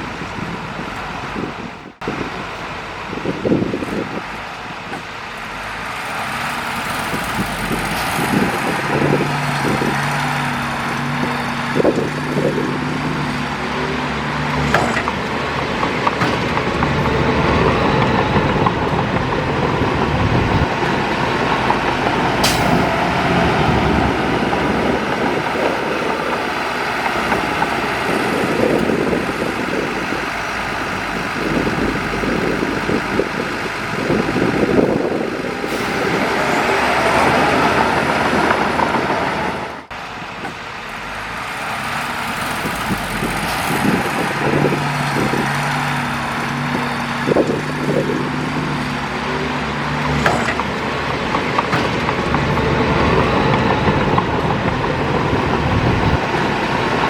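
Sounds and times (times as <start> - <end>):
heavy diesel machinery running: 0.0 - 57.0
low engine tones: 0.0 - 57.0.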